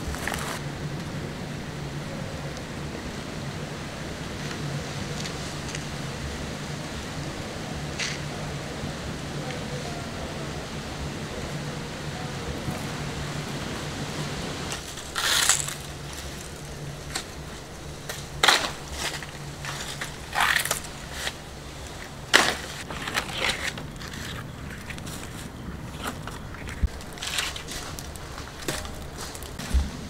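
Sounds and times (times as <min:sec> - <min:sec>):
dry fronds crunching and rustling: 0:00.0 - 0:01.3, 0:02.4 - 0:30.0
steady low hiss: 0:00.0 - 0:30.0.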